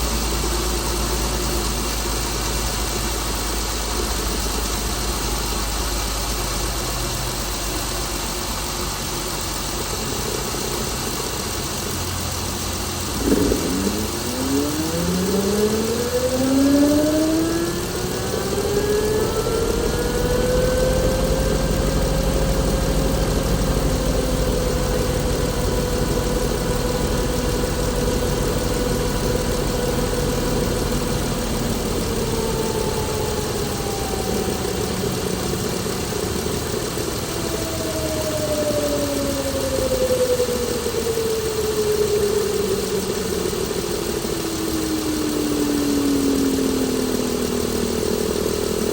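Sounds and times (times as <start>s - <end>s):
car engine idling: 0.0s - 48.9s
rising whine: 9.5s - 48.9s.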